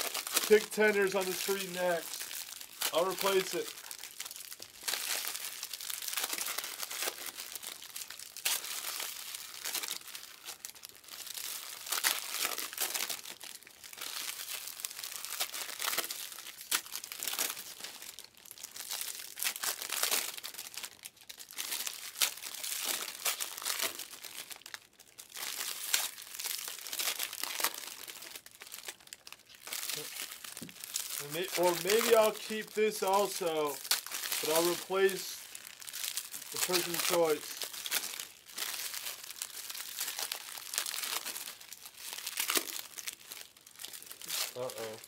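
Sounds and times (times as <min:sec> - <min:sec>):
card pack wrappers crinkling: 0:00.0 - 0:45.0.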